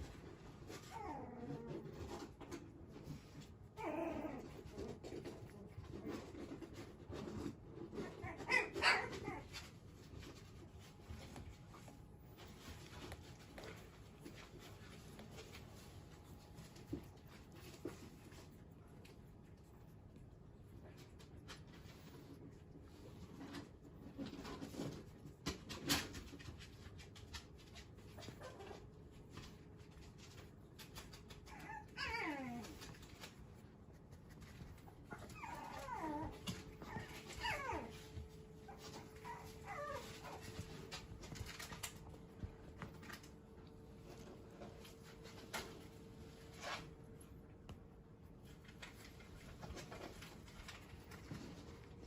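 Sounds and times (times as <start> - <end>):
puppy whining: 0.0 - 47.5.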